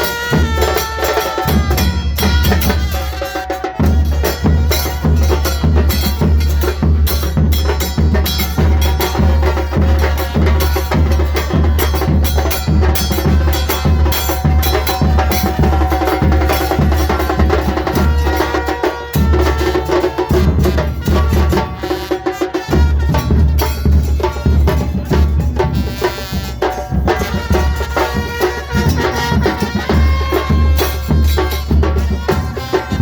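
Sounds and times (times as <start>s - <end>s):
bass drum beat: 0.0s - 33.0s.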